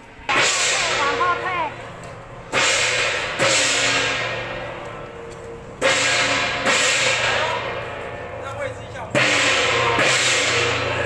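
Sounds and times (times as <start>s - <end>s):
cymbals crashing: 0.0s - 11.0s
drums: 0.0s - 11.0s.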